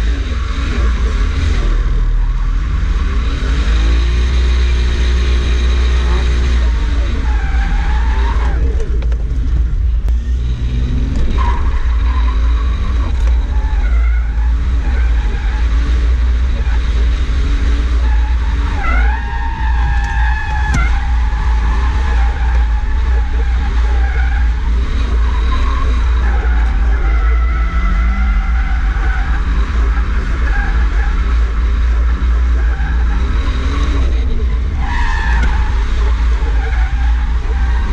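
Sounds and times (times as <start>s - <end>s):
car engine revving: 0.0s - 37.9s
tyres skidding and squealing: 0.0s - 37.9s.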